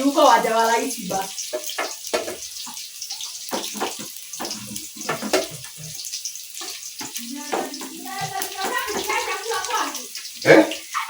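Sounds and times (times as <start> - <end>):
utensils and pots clinking: 0.0 - 11.0.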